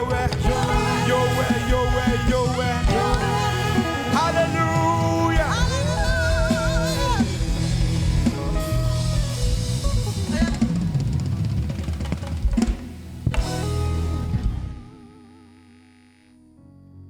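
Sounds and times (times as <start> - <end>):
live band music: 0.0 - 15.5.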